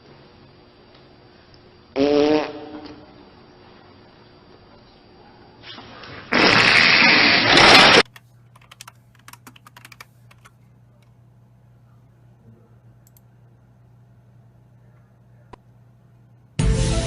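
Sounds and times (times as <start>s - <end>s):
faint steady hum: 0.0s - 6.2s, 8.0s - 16.6s.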